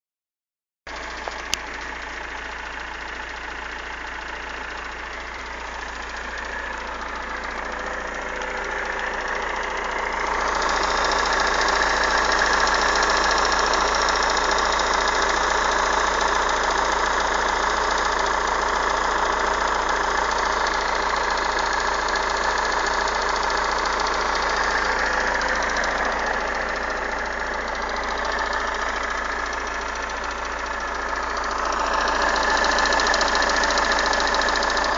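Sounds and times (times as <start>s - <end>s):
engine running: 0.9s - 34.9s.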